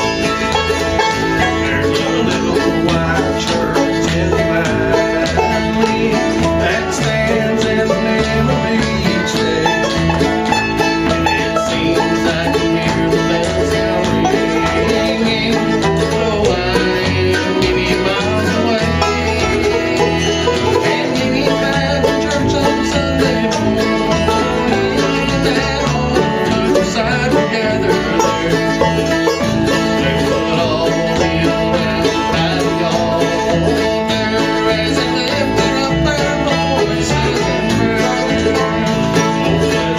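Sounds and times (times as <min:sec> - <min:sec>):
banjo picking: 0:00.0 - 0:39.9
bluegrass band playing: 0:00.0 - 0:39.9.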